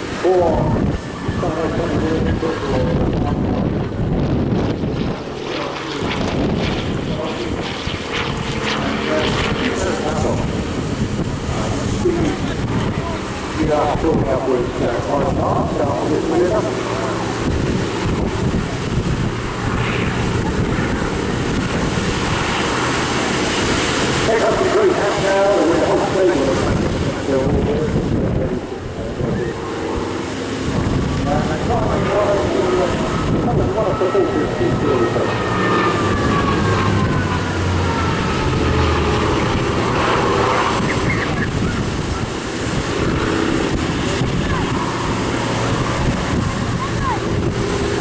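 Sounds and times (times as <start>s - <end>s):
aircraft radial engine running: 0.0s - 48.0s
high whine: 0.0s - 48.0s
wind buffeting microphone: 0.0s - 48.0s.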